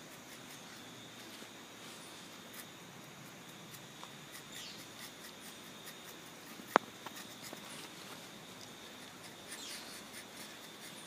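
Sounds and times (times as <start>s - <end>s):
knife scratching tree bark: 0.0s - 11.0s.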